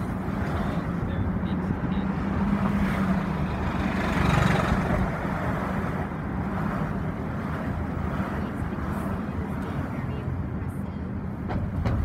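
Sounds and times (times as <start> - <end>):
motor vehicle engine hum: 0.0 - 12.0.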